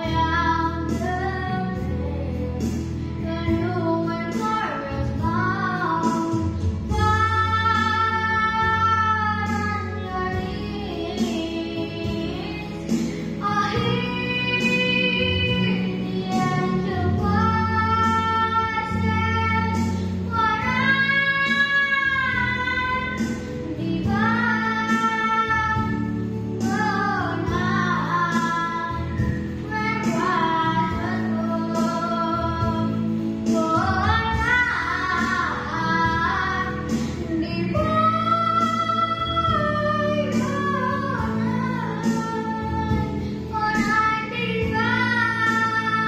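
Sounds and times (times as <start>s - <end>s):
boy singing: 0.0s - 46.0s.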